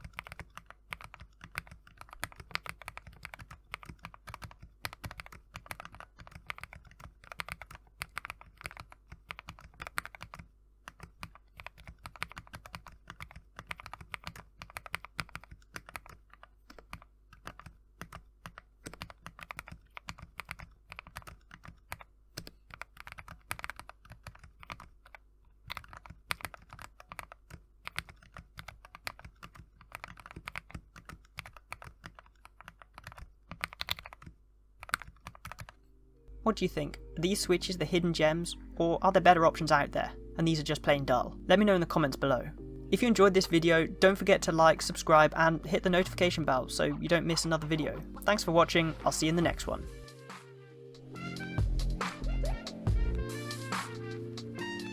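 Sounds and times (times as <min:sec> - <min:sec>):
mechanical keyboard typing: 0:00.0 - 0:35.8, 0:36.5 - 0:50.3.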